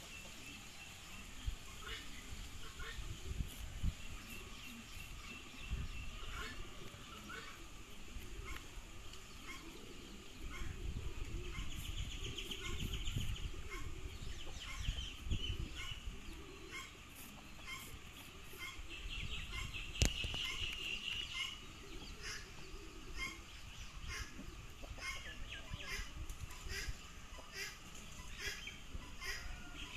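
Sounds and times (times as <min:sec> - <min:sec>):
poultry clucking and chirping: 0:00.0 - 0:29.9.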